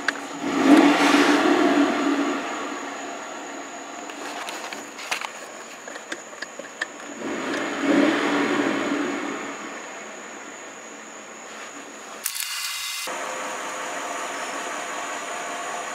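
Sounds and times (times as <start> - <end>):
car engine idling and revving: 0.0 - 11.4, 13.1 - 15.9.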